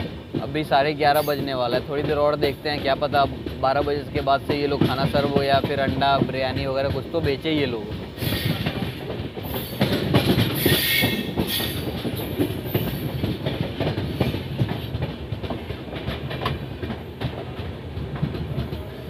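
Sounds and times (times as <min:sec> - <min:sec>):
train wheels clattering over rail joints: 0:00.0 - 0:19.0.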